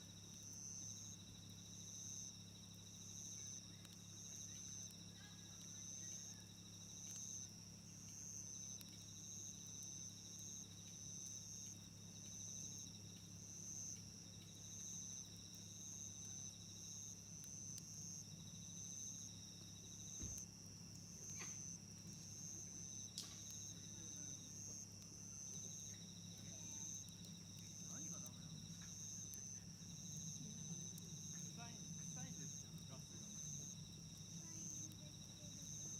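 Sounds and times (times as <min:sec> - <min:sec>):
insect high chirp: 0:00.0 - 0:35.9
campfire pops: 0:00.1 - 0:35.9.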